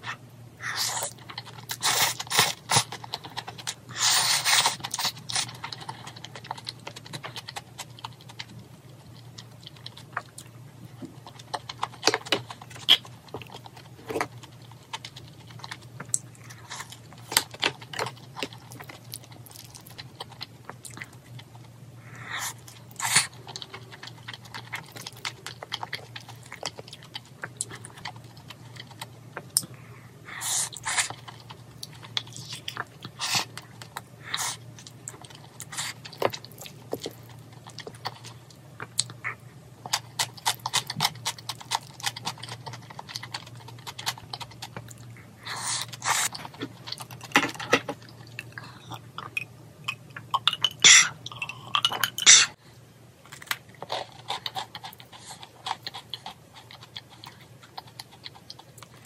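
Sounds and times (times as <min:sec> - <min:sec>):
chewing: 0:00.0 - 0:52.6, 0:53.3 - 0:59.0.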